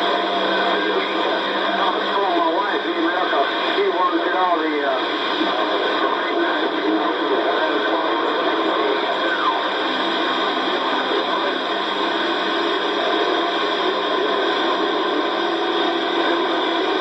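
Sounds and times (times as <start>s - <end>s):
garbled radio signals: 0.0s - 17.0s
radio static hiss: 0.0s - 17.0s.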